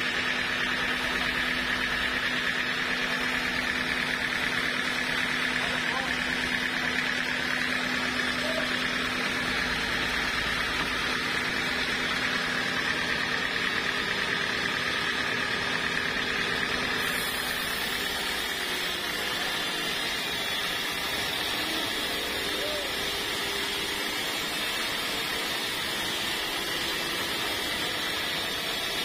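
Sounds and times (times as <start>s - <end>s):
band saw cutting wood: 0.0s - 29.0s.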